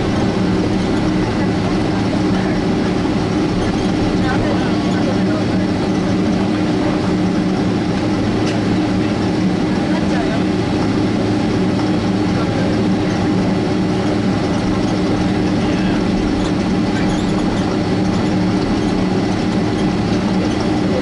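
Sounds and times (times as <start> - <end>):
jet engines idling in cabin: 0.0 - 21.0.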